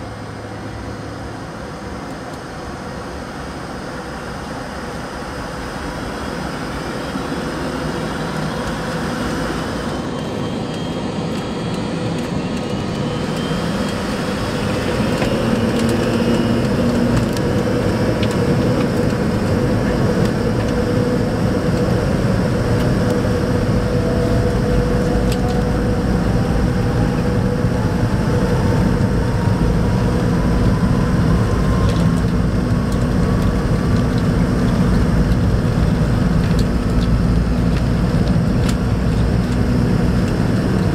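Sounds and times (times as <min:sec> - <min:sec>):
engine whine rising: 0:00.0 - 0:40.9
jet engines roaring in cabin: 0:00.0 - 0:40.9.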